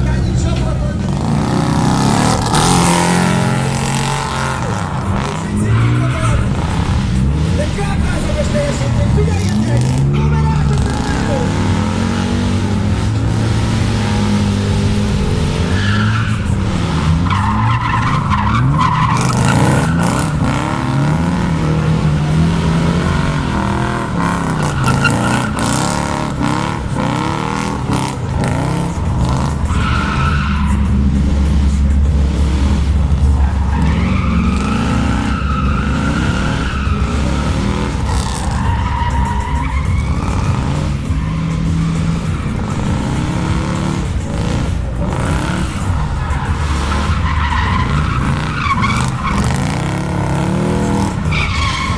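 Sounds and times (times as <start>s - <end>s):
car engine revving: 0.0s - 51.9s
tyres squealing: 0.0s - 51.9s.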